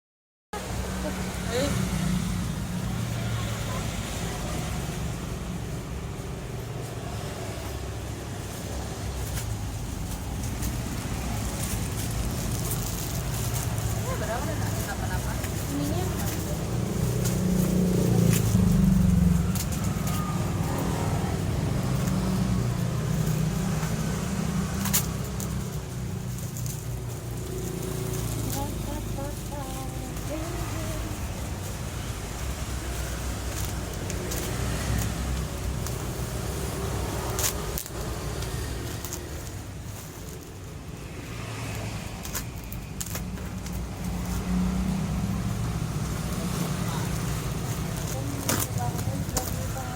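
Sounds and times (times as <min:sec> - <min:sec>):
vehicle engine rumble: 0:00.6 - 0:49.9.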